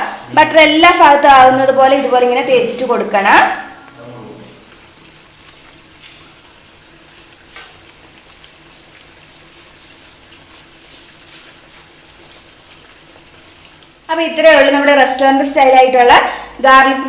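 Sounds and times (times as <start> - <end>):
butter sizzling on bread in pan: 0.0 - 17.0.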